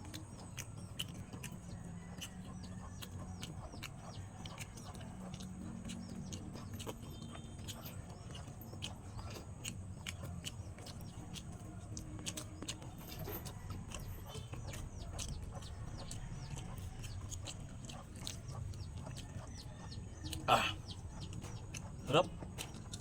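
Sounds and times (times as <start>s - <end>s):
birds chirping: 0.0s - 23.0s
wet chewing clicks and smacks: 0.0s - 23.0s.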